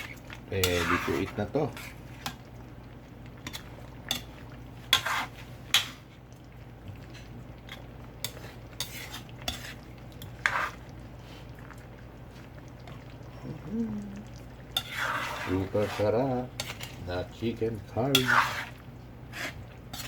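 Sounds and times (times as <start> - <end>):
spoon stirring and scraping pot: 0.0 - 2.7, 3.3 - 13.2, 14.3 - 20.0.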